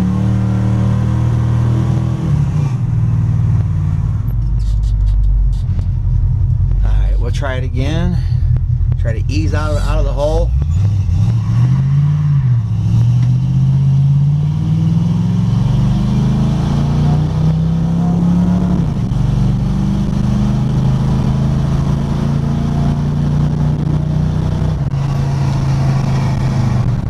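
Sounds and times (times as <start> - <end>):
truck engine accelerating: 0.0 - 27.0.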